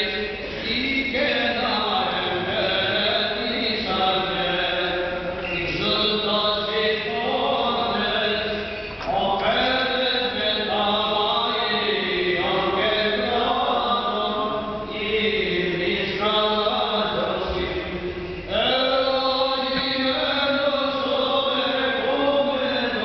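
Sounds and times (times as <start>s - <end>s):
chant melody: 0.0s - 23.0s.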